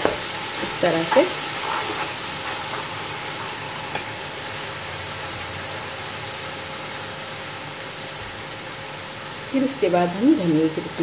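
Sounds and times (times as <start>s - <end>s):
paste frying in oil: 0.0s - 11.0s.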